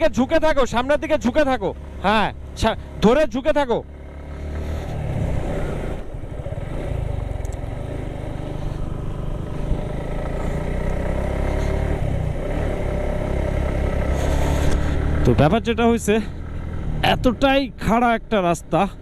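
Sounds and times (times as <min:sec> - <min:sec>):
motorcycle engine under load: 0:00.7 - 0:18.0.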